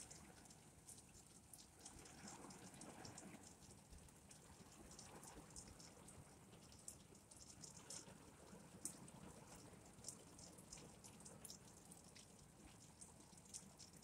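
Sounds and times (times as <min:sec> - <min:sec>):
light rain falling: 0:00.0 - 0:14.0
raindrops ticking: 0:00.0 - 0:14.0.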